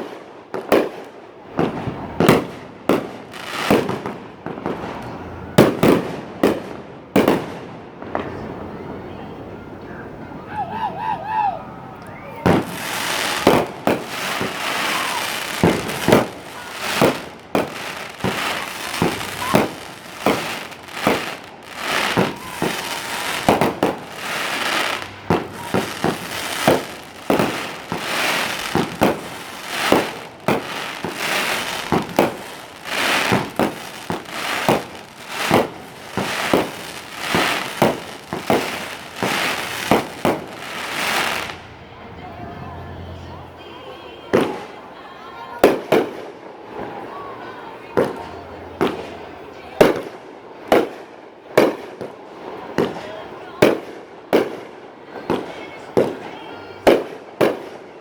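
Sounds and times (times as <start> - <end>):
fireworks bursting: 0.0 - 9.1, 12.3 - 41.7, 43.6 - 58.0
fireworks crackling: 0.0 - 9.6, 12.2 - 41.9, 43.6 - 58.0.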